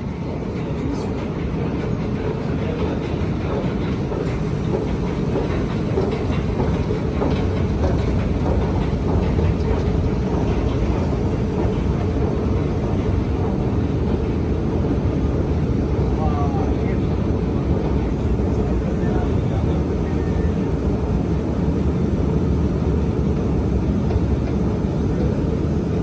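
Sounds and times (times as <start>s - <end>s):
escalator mechanical rumble: 0.0s - 26.0s
underground station noise: 0.0s - 26.0s.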